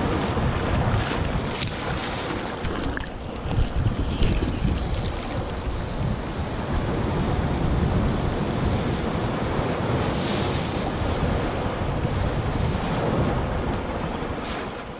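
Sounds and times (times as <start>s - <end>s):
surf washing over sand: 0.0s - 14.9s
wind on microphone: 0.0s - 14.9s.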